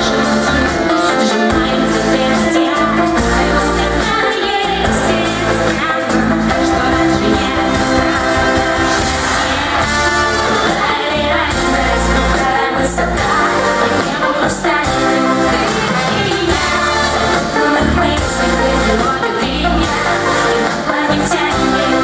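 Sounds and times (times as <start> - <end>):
amplified pop band: 0.0 - 22.0
woman singing into microphone: 0.0 - 22.0.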